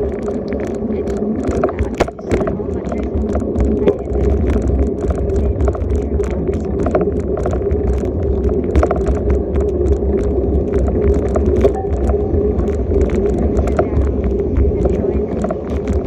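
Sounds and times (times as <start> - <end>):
bicycle rolling on street: 0.0 - 16.0
bike rattles and clicks: 0.0 - 16.0.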